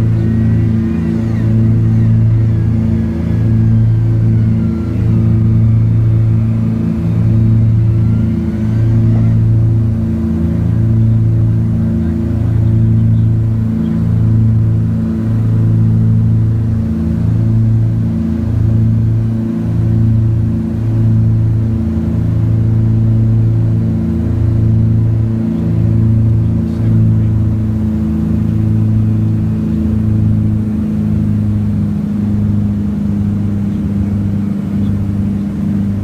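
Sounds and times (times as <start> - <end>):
airplane engines droning: 0.0 - 36.0.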